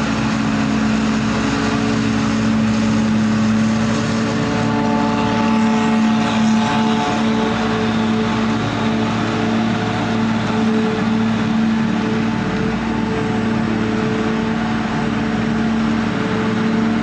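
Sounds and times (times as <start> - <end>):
heavy diesel engines droning: 0.0 - 17.0
higher steady tones: 0.5 - 17.0.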